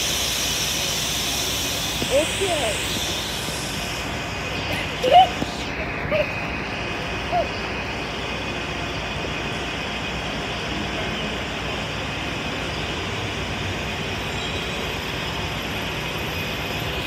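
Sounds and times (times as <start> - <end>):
engine and traffic noise: 0.0 - 17.0.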